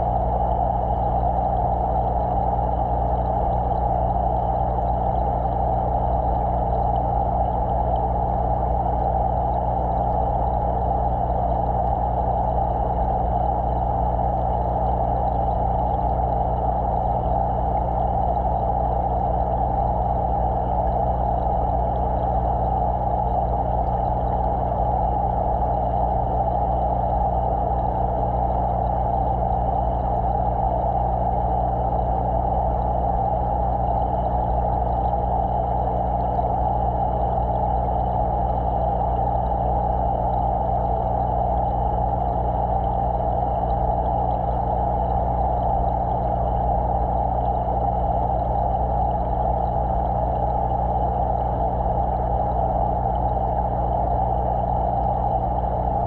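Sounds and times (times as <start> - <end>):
low equipment hum: 0.0 - 56.0.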